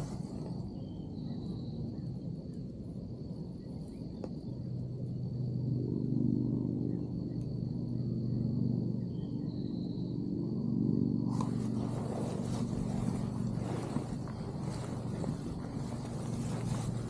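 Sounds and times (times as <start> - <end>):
distant engine hum: 0.0 - 17.0.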